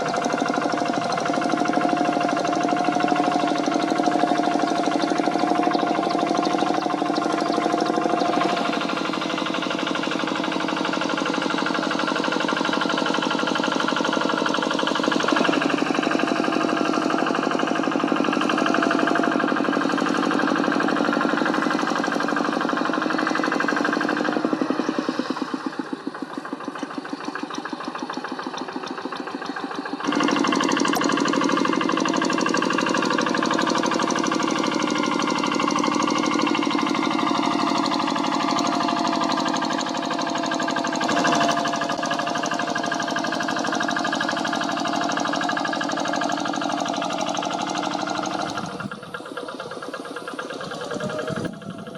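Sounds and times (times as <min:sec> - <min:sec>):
diesel engine knocking: 0:00.0 - 0:51.9.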